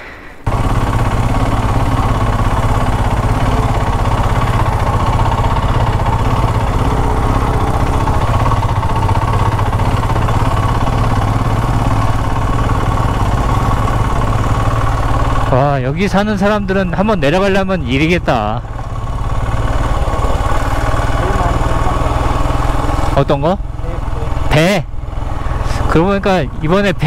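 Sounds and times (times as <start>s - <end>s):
motorcycle engine running low: 0.4s - 27.0s.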